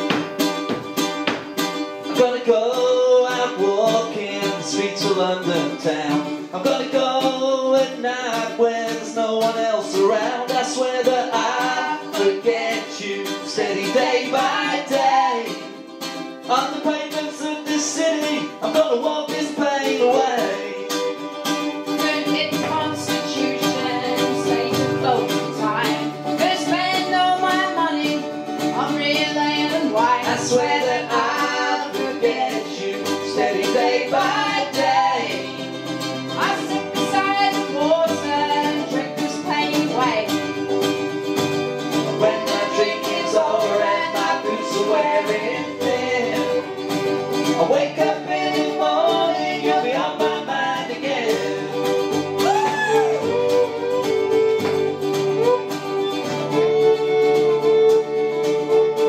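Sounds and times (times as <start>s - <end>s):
acoustic guitars and fiddle: 0.0s - 59.0s
man and woman singing: 2.1s - 15.8s, 16.4s - 40.6s, 42.0s - 54.0s.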